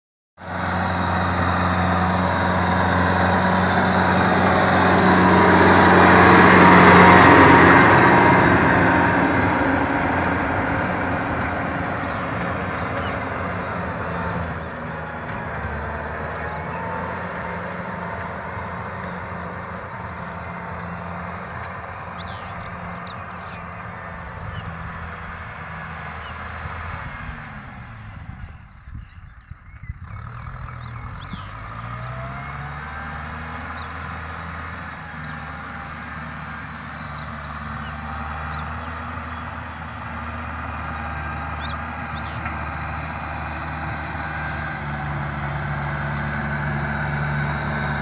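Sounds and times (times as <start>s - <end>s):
tractor diesel engine running: 0.4s - 48.0s.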